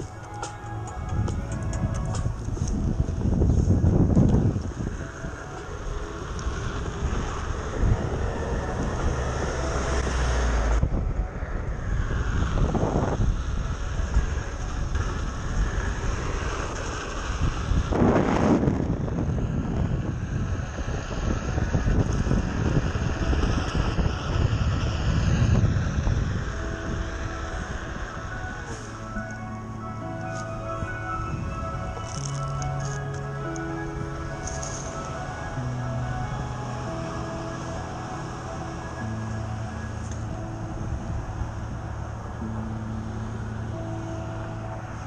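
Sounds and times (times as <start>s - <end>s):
wheels rumbling on asphalt: 0.0s - 45.0s
wind rushing over microphone: 0.0s - 45.0s.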